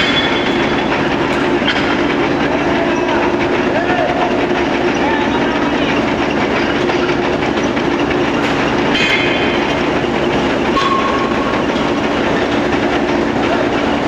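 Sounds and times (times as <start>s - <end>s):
forging machinery din: 0.0s - 13.2s.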